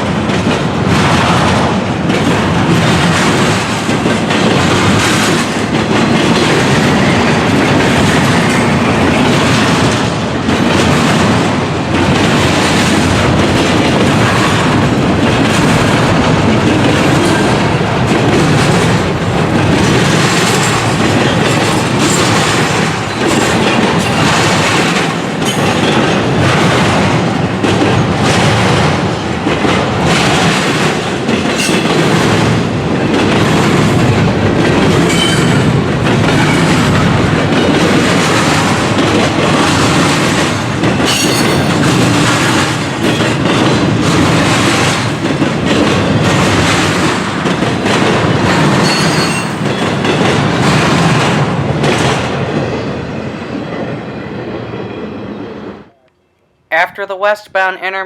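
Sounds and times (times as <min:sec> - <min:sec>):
clickety-clack over rail joints: 0:00.0 - 0:54.0
freight train wheels rumbling: 0:00.0 - 0:56.0.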